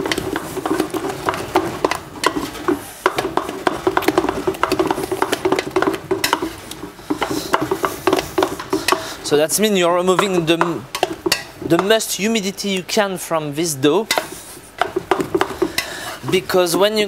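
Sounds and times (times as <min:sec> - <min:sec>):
wooden spoon knocking and scraping pot: 0:00.0 - 0:12.3, 0:14.0 - 0:17.0.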